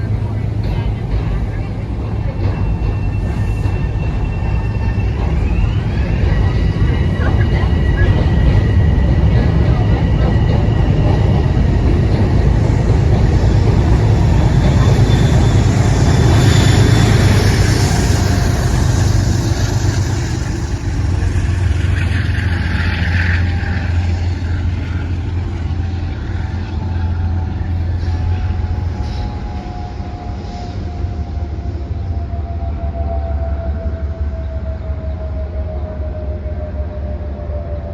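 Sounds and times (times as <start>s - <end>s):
train rumble: 0.0s - 37.9s.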